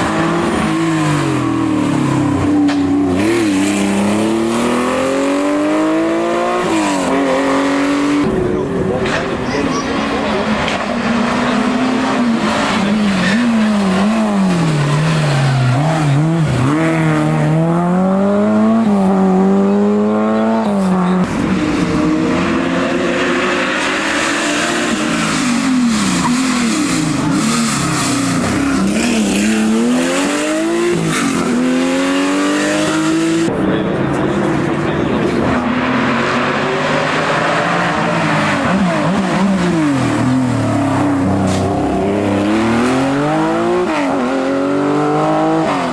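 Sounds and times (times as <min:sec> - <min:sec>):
rally car engines at full throttle: 0:00.0 - 0:45.9.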